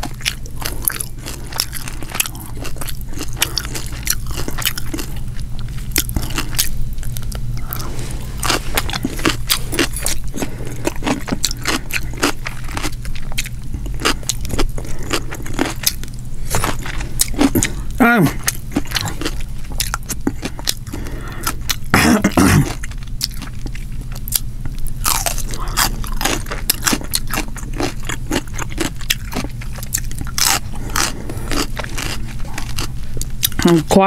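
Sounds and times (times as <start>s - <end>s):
chewing crunchy food: 0.0s - 34.0s.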